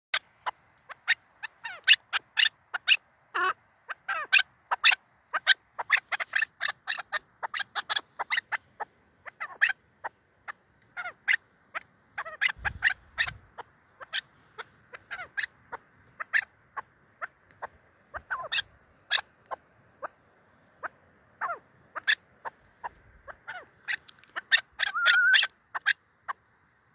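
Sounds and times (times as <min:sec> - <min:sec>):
partridge calling: 0:00.2 - 0:26.5.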